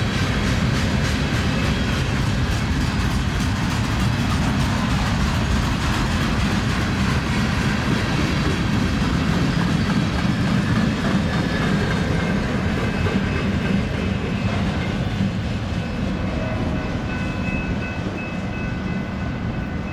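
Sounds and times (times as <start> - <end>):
freight train wheels rumbling on rails: 0.0 - 19.9.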